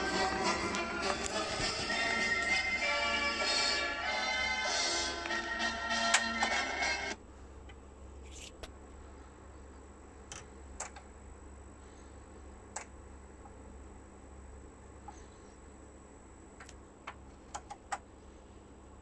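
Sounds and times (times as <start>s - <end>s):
turntable low hum: 0.0s - 19.0s.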